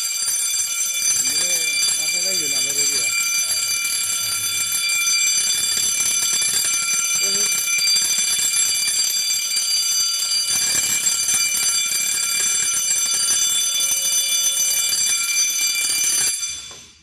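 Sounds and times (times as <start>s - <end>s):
fire alarm bell ringing: 0.0s - 17.0s.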